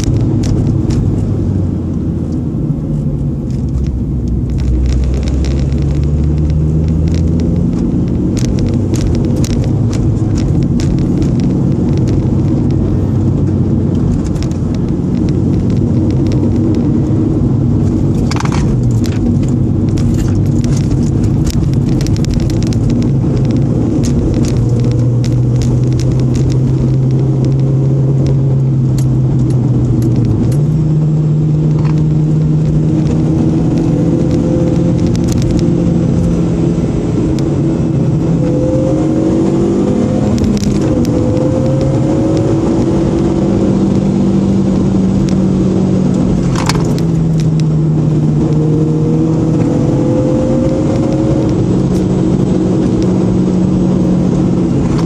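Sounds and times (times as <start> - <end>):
car engine under load: 0.0 - 55.0
tyre and road noise: 0.0 - 55.0.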